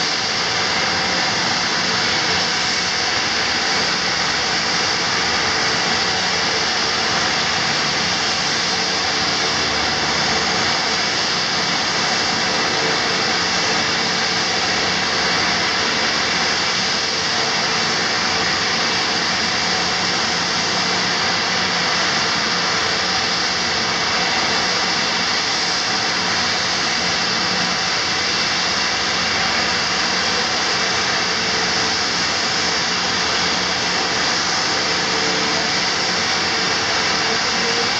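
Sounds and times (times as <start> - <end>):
constant high whine: 0.0 - 37.9
turboprop engines idling: 0.0 - 37.9.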